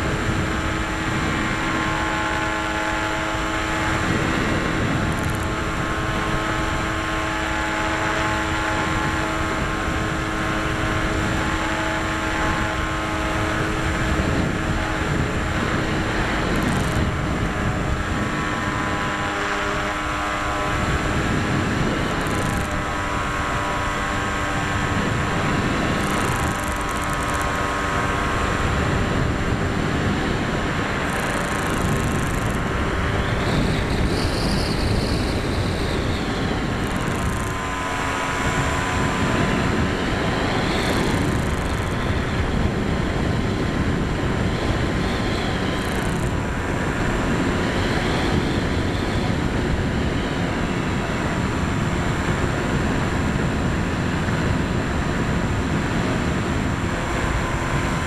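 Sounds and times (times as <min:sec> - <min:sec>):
model plane motor whine: 0:00.0 - 0:58.0
wind rushing over microphone: 0:00.0 - 0:58.0.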